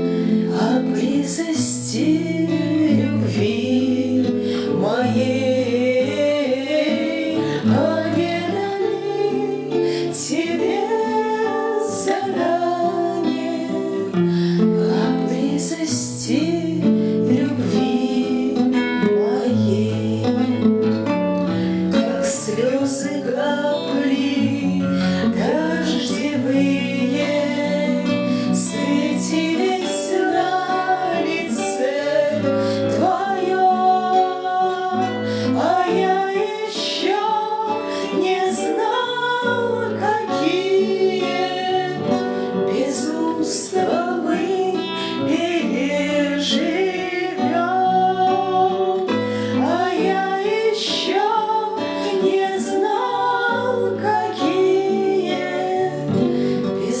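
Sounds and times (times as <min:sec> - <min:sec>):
acoustic guitar: 0:00.0 - 0:57.0
woman singing: 0:00.0 - 0:57.0.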